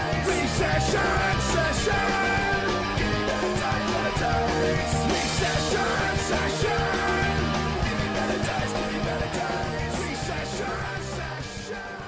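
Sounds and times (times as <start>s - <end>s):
driving drums: 0.0s - 12.0s
punk rock band: 0.0s - 12.0s.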